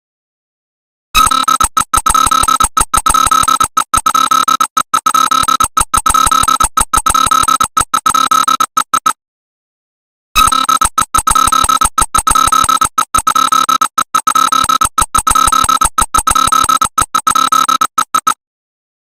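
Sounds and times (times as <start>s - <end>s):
electronic emergency alert tone: 1.2s - 9.2s, 10.4s - 18.4s.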